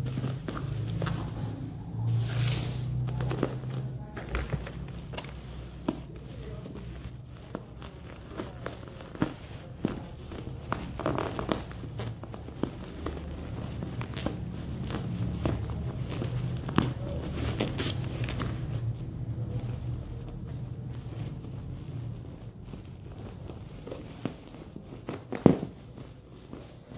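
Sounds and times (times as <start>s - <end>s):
bubble wrap crinkling: 0.0s - 26.9s.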